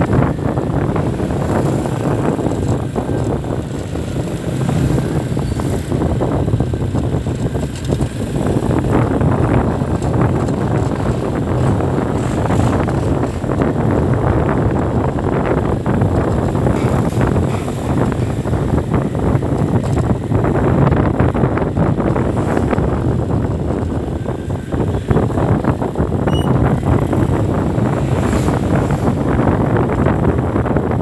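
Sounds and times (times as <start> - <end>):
vehicle engine and road noise: 0.0 - 31.0
wind buffeting microphone: 0.0 - 31.0.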